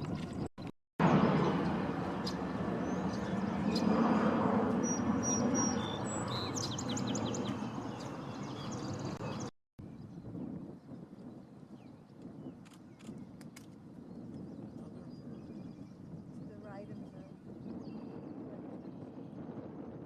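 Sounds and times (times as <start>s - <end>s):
small birds chirping: 1.1s - 19.4s.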